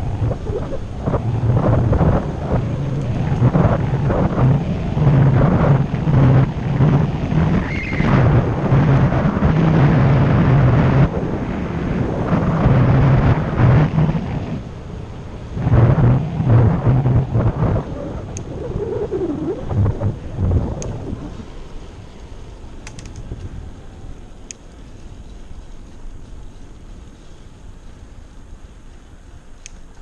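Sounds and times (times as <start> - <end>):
bicycle tyres on asphalt: 0.0 - 30.0
wind buffeting microphone: 0.0 - 30.0.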